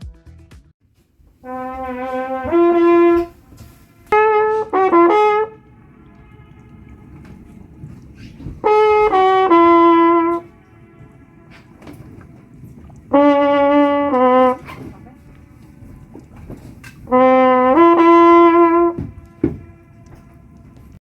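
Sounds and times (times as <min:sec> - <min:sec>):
brass horn playing: 0:01.4 - 0:21.0
horn echo off rock walls: 0:01.4 - 0:21.0.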